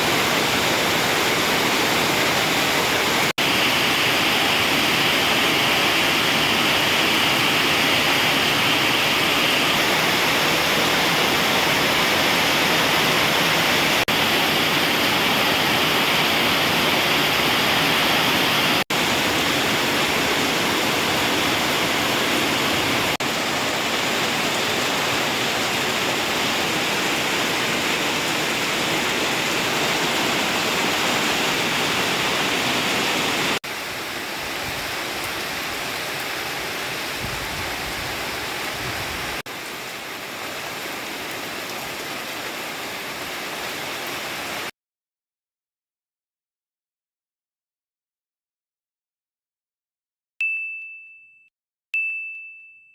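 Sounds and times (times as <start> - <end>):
heavy rain falling: 0.0 - 44.7.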